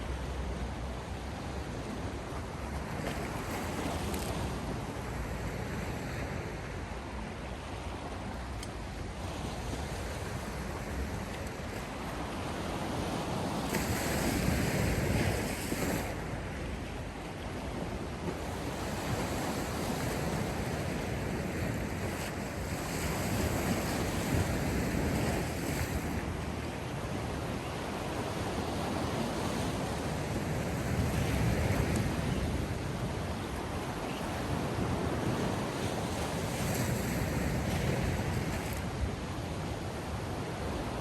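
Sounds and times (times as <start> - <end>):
waves breaking: 0.0 - 41.0.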